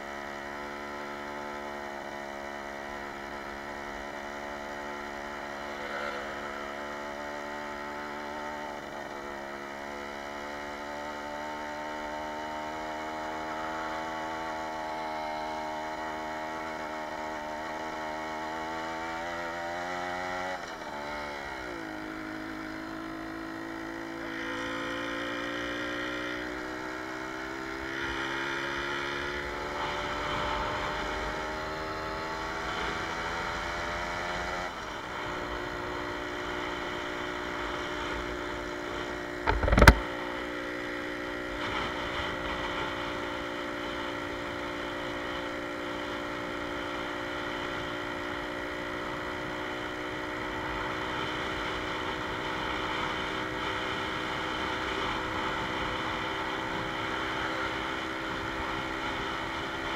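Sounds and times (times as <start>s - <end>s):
two-stroke motorcycle engine running: 0.0s - 59.9s.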